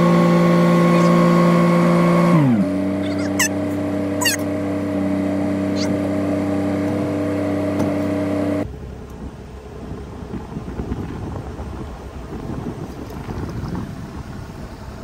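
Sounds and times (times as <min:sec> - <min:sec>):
diesel engine running: 0:00.0 - 0:15.0
low uneven rumble: 0:02.6 - 0:15.0.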